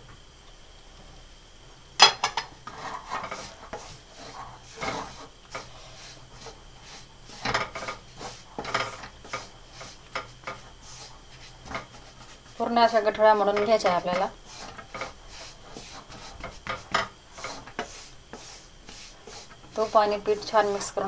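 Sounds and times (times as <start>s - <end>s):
wooden spatula scraping metal pan: 2.2s - 21.0s.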